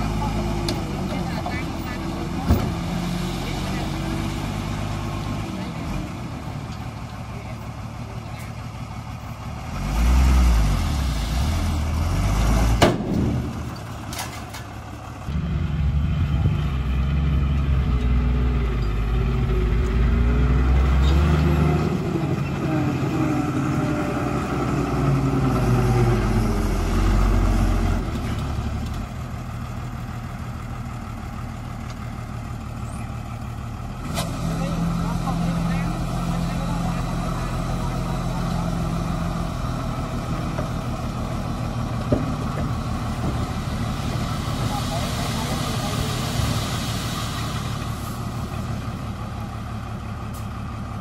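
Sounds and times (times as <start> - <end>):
bulldozer diesel engine working: 0.0 - 51.0.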